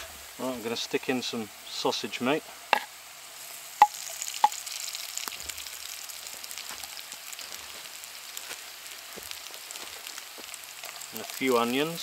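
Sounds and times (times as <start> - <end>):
potatoes and meat sizzling in oil: 0.0 - 12.0.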